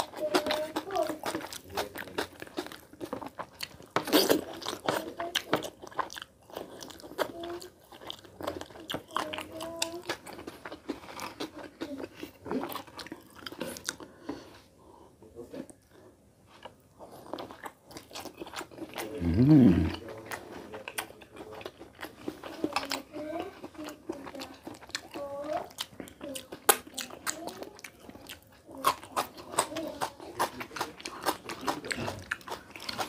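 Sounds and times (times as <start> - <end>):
wet chewing and lip smacking: 0.0 - 14.3, 16.6 - 33.0.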